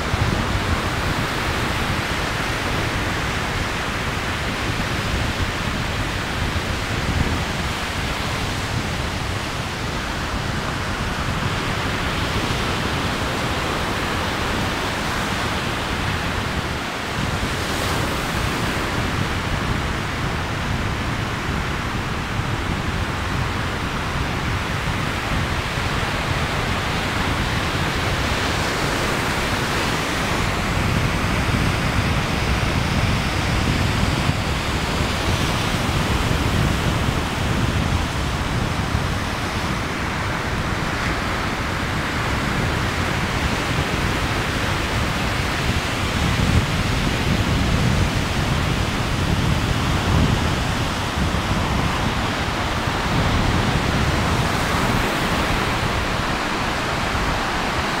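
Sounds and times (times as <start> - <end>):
ocean surf breaking on sand: 0.0 - 58.0.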